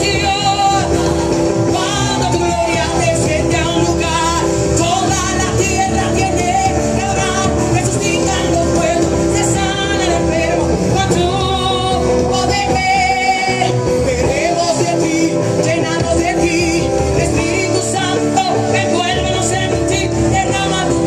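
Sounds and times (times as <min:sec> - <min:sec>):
people singing: 0:00.0 - 0:21.0
worship band through loudspeakers: 0:00.0 - 0:21.0.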